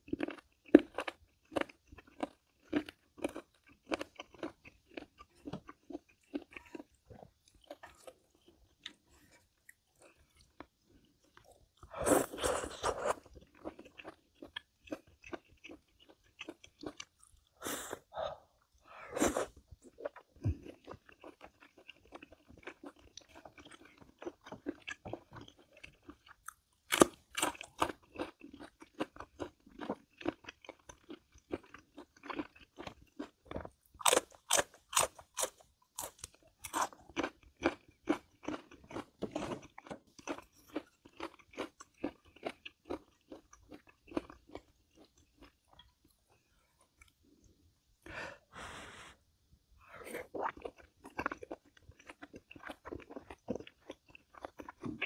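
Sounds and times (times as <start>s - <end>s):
person chewing crunchy food: 0.0s - 49.0s, 49.8s - 55.0s.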